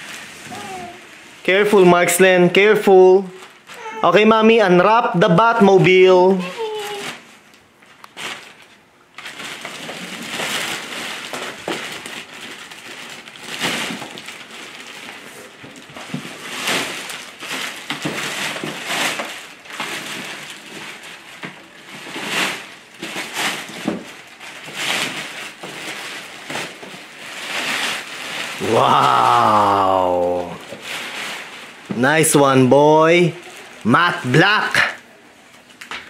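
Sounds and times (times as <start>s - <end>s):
plastic wrapping crinkling: 0.0s - 36.0s.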